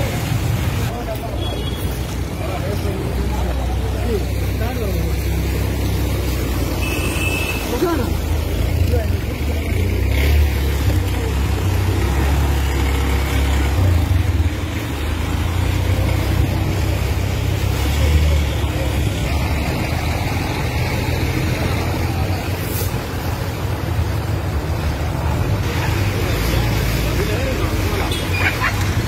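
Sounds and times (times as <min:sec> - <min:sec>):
street noise: 0:00.0 - 0:29.0.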